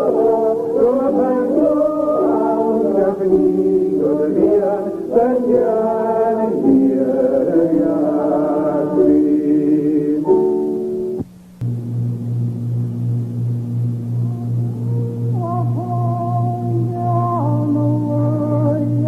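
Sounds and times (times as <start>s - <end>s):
person singing: 0.0s - 10.9s, 14.2s - 19.0s.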